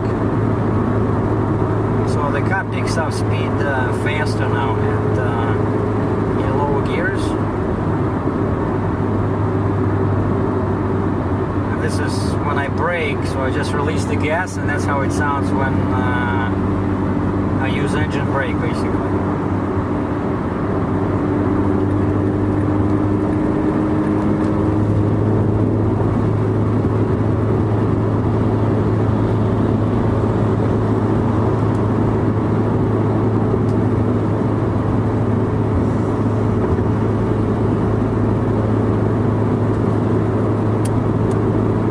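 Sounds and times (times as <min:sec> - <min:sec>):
car exhaust drone: 0:00.0 - 0:41.9
tyre and road noise: 0:00.0 - 0:41.9.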